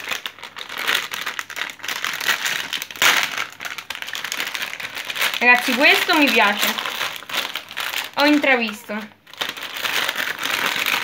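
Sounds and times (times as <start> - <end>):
plastic sachet crinkling: 0.0 - 11.0.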